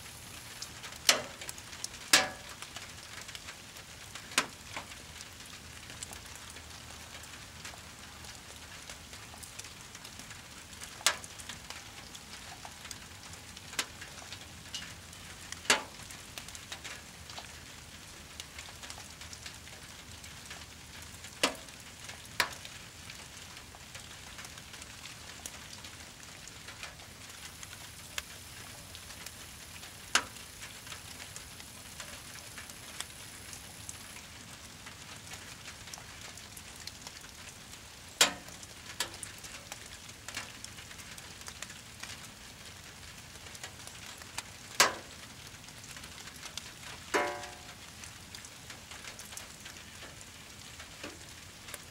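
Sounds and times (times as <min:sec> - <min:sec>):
fire crackling and hissing: 0:00.0 - 0:51.9
steady rain: 0:00.0 - 0:51.9
burning wood popping: 0:00.1 - 0:42.9, 0:43.6 - 0:51.9.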